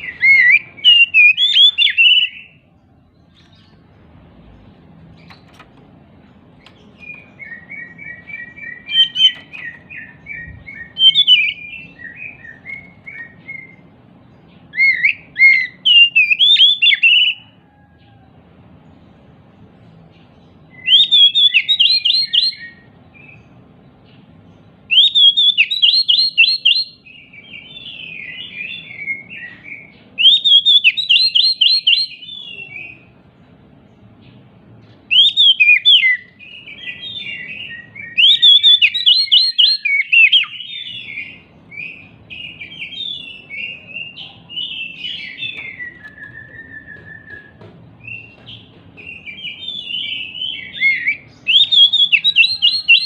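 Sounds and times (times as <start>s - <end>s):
magpie-robin whistled song: 0.0s - 2.7s, 6.6s - 17.6s, 20.6s - 24.2s, 24.8s - 33.2s, 35.0s - 53.0s.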